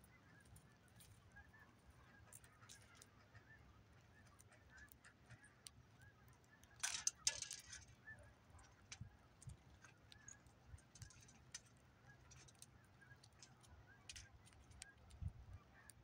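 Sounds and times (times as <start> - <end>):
birds pecking at seed: 0.0 - 16.0.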